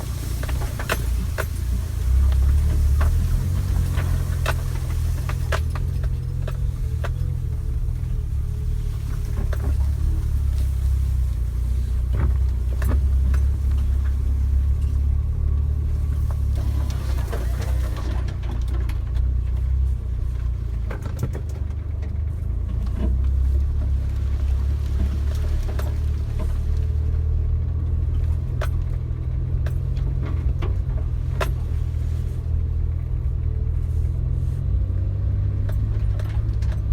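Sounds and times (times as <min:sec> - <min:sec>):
engine and drivetrain rumble: 0:00.0 - 0:36.9.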